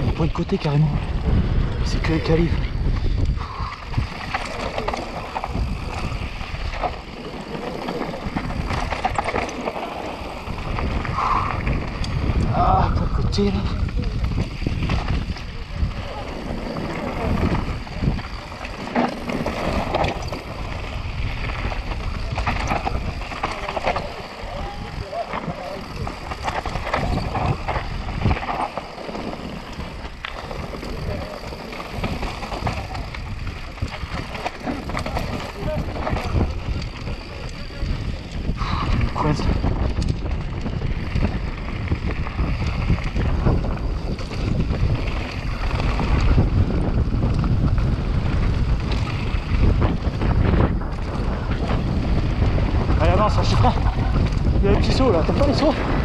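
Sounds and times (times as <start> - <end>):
bike rattling on loose dirt: 0.0 - 56.0
wind buffeting microphone: 0.0 - 56.0.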